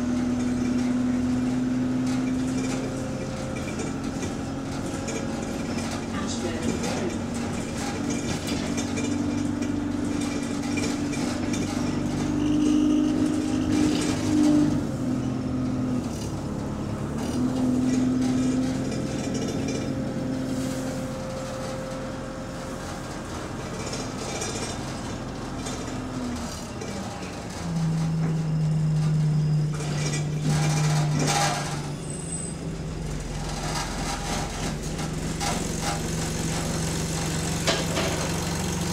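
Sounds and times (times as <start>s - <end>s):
bus engine running: 0.0s - 38.9s.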